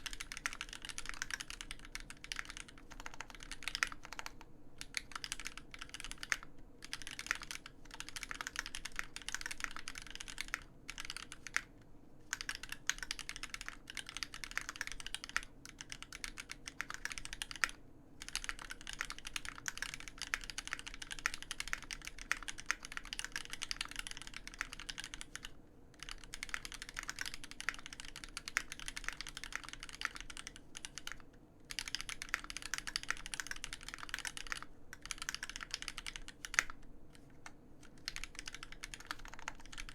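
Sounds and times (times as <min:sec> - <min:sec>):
mechanical keyboard typing: 0:00.0 - 0:11.7, 0:12.3 - 0:39.9.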